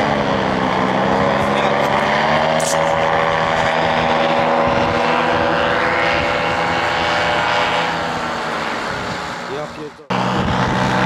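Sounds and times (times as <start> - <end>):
paramotor engine flying past: 0.0 - 11.0.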